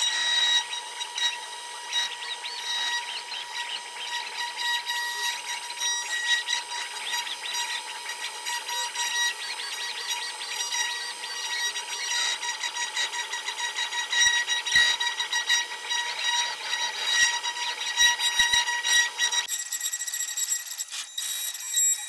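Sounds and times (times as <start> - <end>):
router spindle whining: 0.0 - 22.0
stepper motors wavering tones: 0.0 - 22.0.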